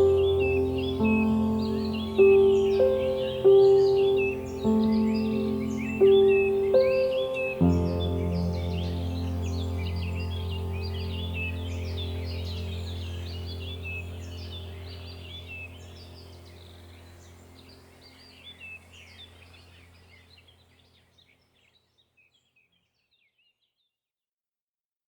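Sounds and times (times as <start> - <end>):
steady low hum: 0.0 - 20.7
birds chirping: 0.0 - 23.6.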